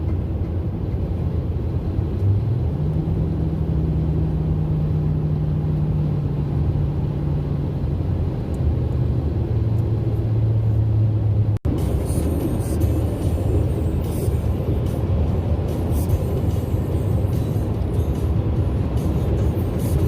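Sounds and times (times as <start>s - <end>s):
motor vehicle engine droning: 0.0s - 20.0s.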